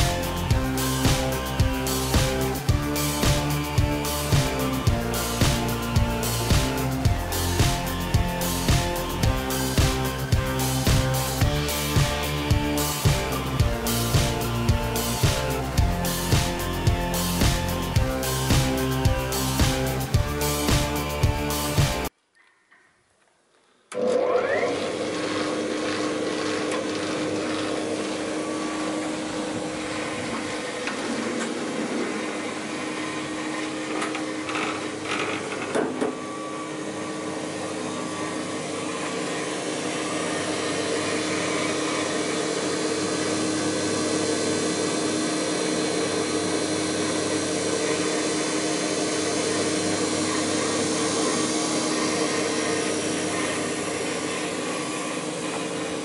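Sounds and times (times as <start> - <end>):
panel saw motor humming: 0.0 - 22.1, 23.9 - 56.0.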